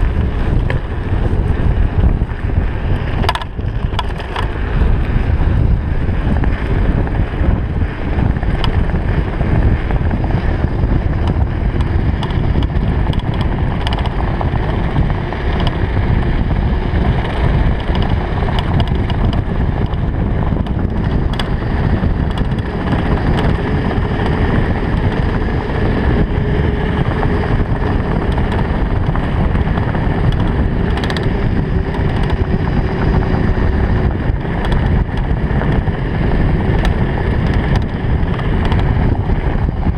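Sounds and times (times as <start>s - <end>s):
bike parts rattling: 0.0s - 39.9s
tyres rumbling on rough pavement: 0.0s - 39.9s
wind buffeting microphone: 0.0s - 39.9s.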